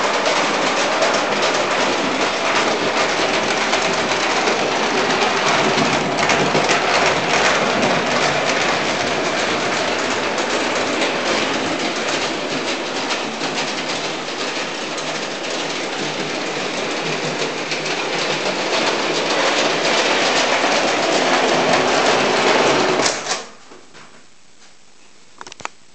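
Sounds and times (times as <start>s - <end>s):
clockwork toy train clattering on track: 0.0s - 23.5s.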